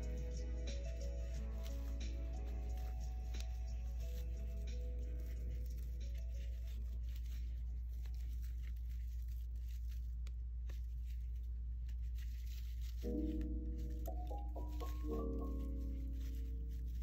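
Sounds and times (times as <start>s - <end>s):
crochet hook rustling yarn: 0.0s - 17.0s.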